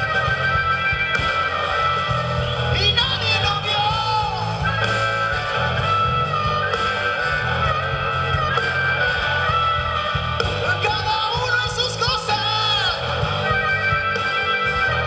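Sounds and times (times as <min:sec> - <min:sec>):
blues harmonica bending notes: 0:00.0 - 0:15.0
drum kit: 0:00.0 - 0:15.0
electric guitar: 0:00.0 - 0:15.0.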